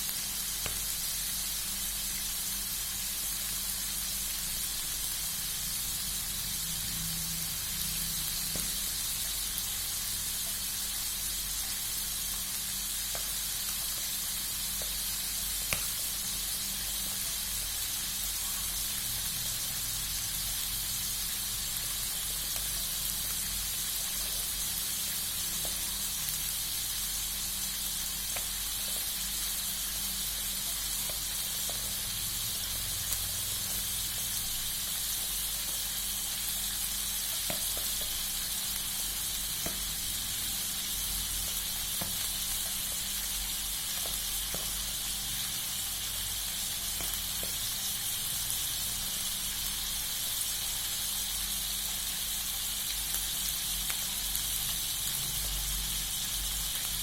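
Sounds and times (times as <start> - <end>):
hot oil sizzling: 0.0 - 57.0.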